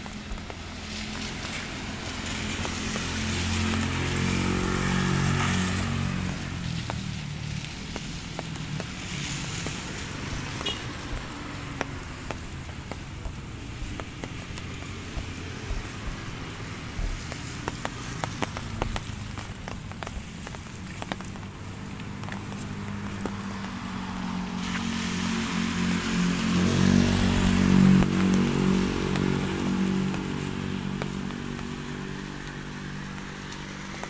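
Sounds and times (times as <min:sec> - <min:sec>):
raindrop taps: 0:00.0 - 0:34.0
soft rain hiss: 0:00.0 - 0:34.0
vehicle engine running: 0:00.2 - 0:34.0.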